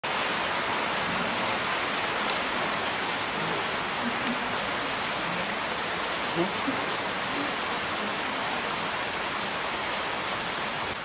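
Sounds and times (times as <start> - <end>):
rain pouring down: 0.0 - 11.0.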